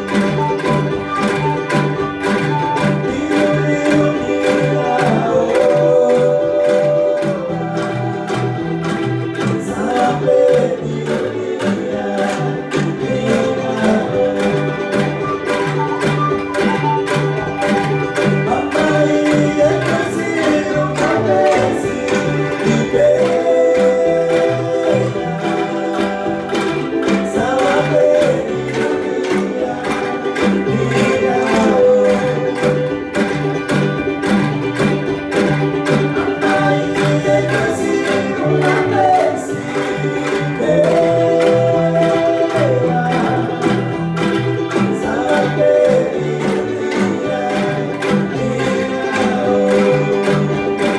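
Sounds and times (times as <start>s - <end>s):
angklung ensemble playing: 0.0s - 50.9s.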